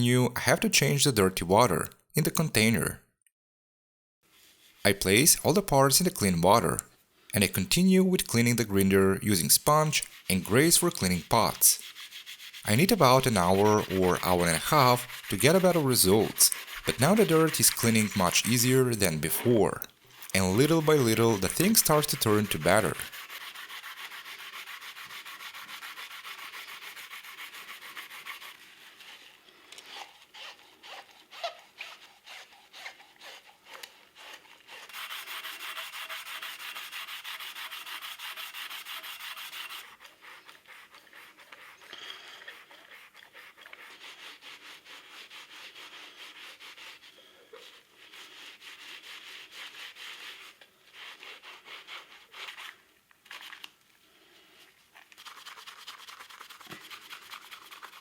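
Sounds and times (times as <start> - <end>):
sponge scrubbing coffee grinder: 7.4 - 53.7, 55.1 - 58.0.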